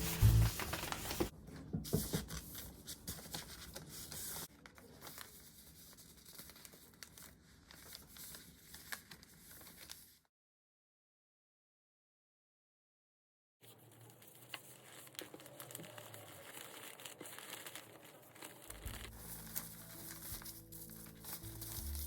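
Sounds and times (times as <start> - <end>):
rustling and crinkling: 0.0 - 10.2, 13.6 - 22.0.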